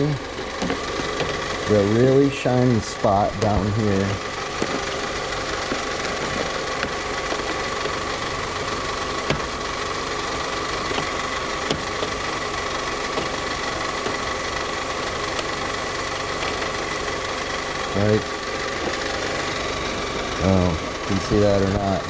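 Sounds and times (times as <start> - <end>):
car engine idling: 0.0 - 22.0
high belt whine: 0.0 - 22.0.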